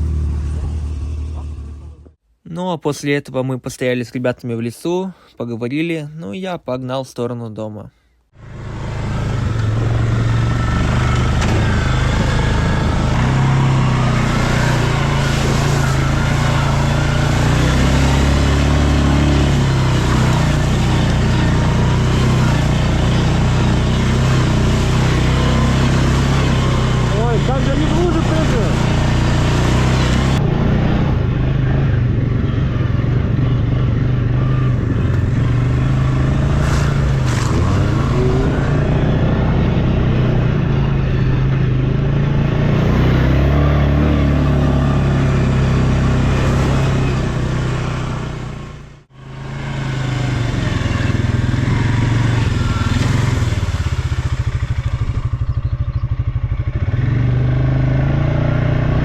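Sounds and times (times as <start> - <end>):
quad bike engine revving: 0.0 - 2.2, 8.4 - 59.0.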